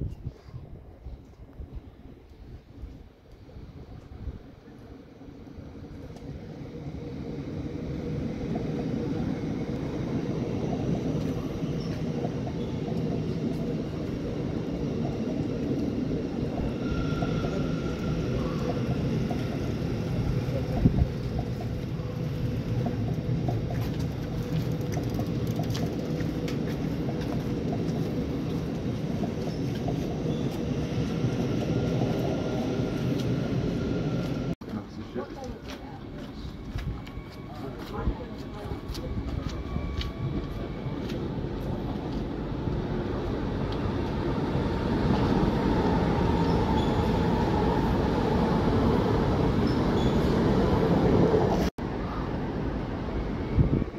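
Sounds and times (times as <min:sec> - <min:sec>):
passenger train rumbling past: 0:00.0 - 0:53.9.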